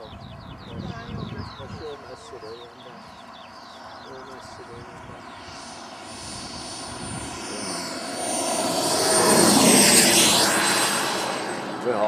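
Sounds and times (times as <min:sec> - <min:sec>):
model jet turbine whine: 0:01.7 - 0:12.0.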